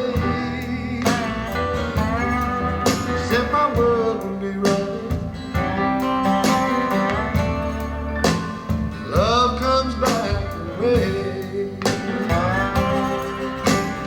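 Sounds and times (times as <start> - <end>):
acoustic guitars bending melody: 0.0 - 14.0
blues-rock band music: 0.0 - 14.0.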